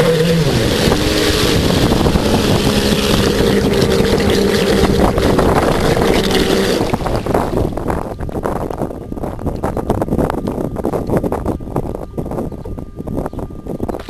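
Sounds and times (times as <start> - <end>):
electric boat motor whine: 0.0 - 14.0
wind rush: 0.0 - 14.0.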